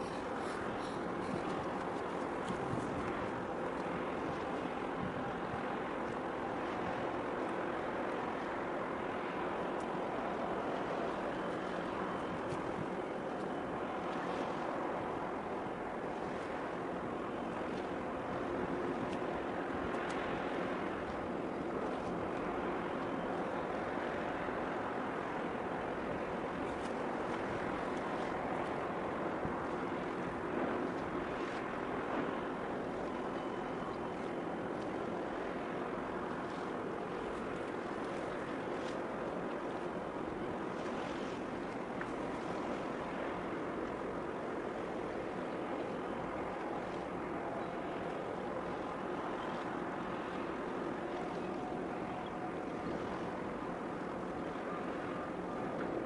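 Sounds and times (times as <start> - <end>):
faint hum: 0.0 - 56.0
waves on choppy sea: 0.0 - 56.0
wind buffeting microphone: 0.0 - 56.0.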